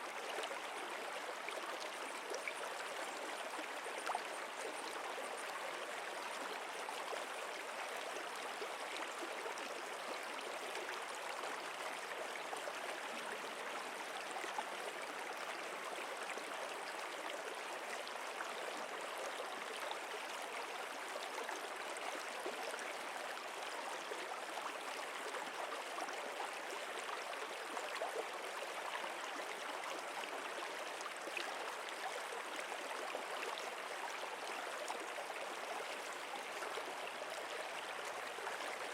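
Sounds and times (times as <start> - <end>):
stream babbling and gurgling: 0.0 - 38.9.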